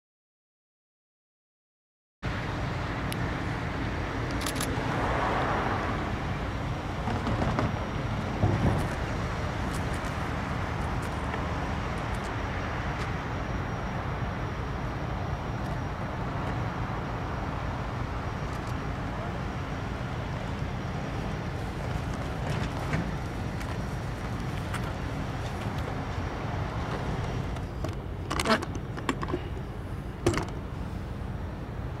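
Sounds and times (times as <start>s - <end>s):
road traffic rumble: 2.2s - 32.0s.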